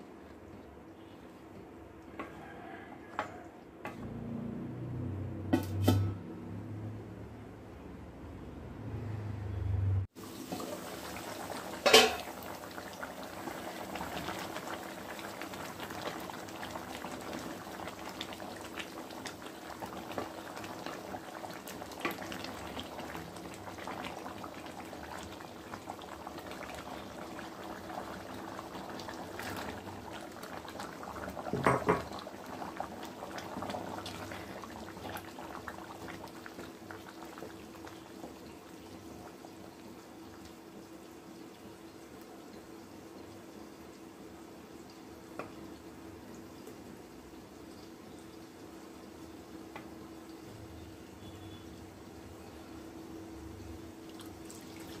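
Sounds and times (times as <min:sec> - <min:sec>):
curry bubbling in a pan: 0:10.1 - 0:55.0.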